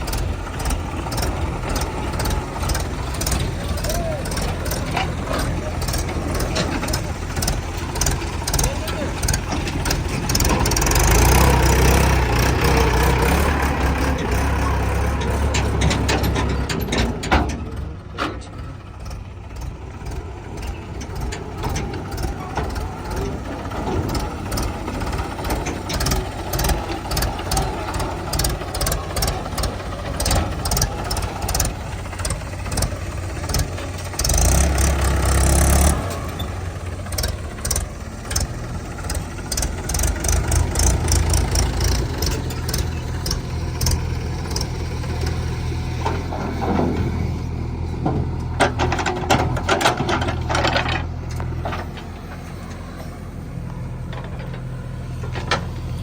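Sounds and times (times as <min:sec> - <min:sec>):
diesel engines running: 0:00.0 - 0:56.0
knocks and clanks: 0:00.0 - 0:56.0.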